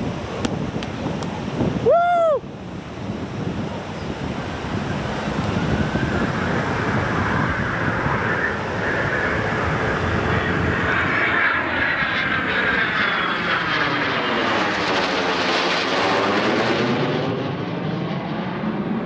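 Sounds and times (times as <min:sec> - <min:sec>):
airplanes flying past: 0:00.0 - 0:19.0.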